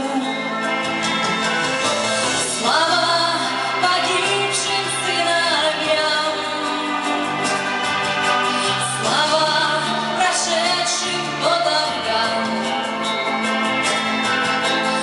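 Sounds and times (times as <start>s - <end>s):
person singing: 0.0s - 1.5s, 2.4s - 15.0s
amplified instrumental accompaniment: 0.0s - 15.0s.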